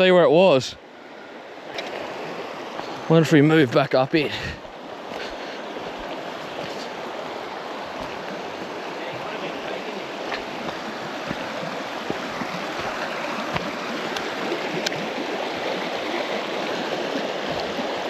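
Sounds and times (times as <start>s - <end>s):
river rapids rushing: 1.6s - 18.0s.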